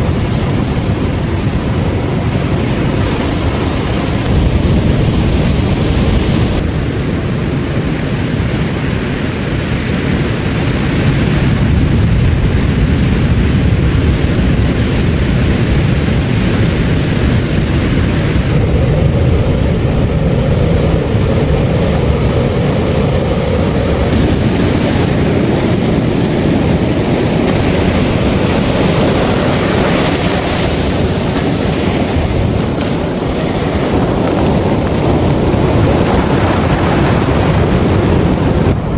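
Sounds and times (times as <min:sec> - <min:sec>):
ocean surf on beach: 0:00.0 - 0:38.9
wind buffeting microphone: 0:00.0 - 0:38.9.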